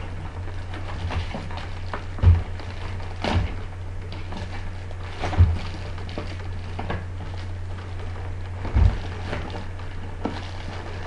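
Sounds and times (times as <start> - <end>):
thuds: 0.0 - 7.4, 8.6 - 10.8
plastic clicks and rustles: 0.0 - 11.0
steady low hum: 0.0 - 11.0.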